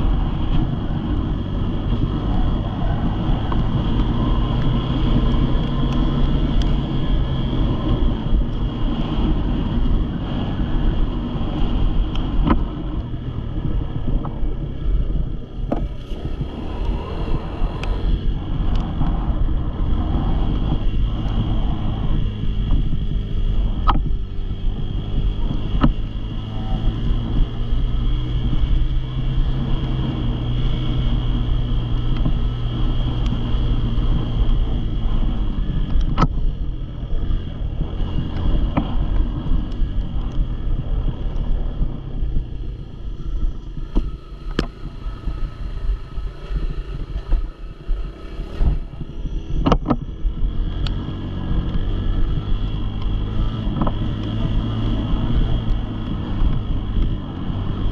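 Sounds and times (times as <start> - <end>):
engine running steadily: 0.0 - 57.9
wind on microphone: 0.0 - 57.9.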